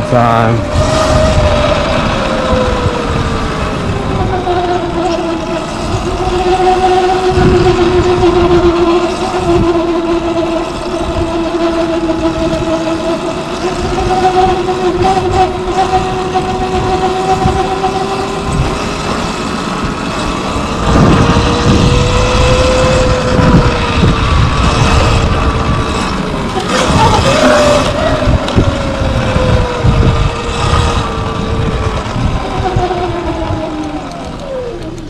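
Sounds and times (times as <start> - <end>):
electric dirt bike motor whining: 0.0 - 35.0.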